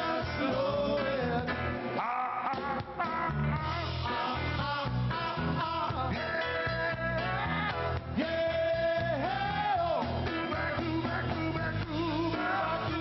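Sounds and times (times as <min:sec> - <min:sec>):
live band playing: 0:00.0 - 0:13.0
men singing rock and roll: 0:00.0 - 0:13.0.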